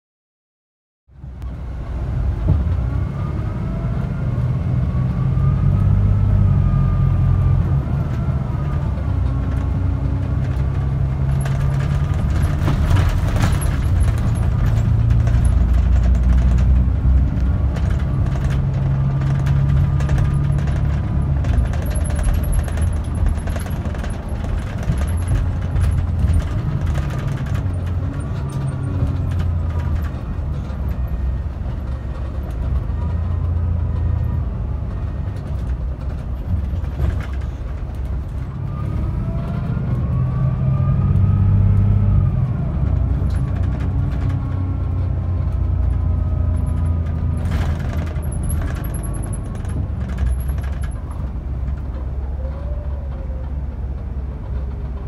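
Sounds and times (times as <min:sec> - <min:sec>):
bus engine drone: 0:01.1 - 0:55.0
road noise: 0:01.1 - 0:55.0.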